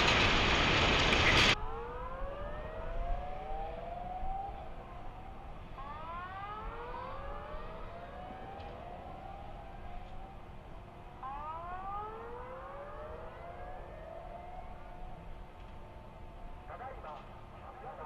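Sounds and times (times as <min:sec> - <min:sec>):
sirens wailing: 0:00.0 - 0:18.0.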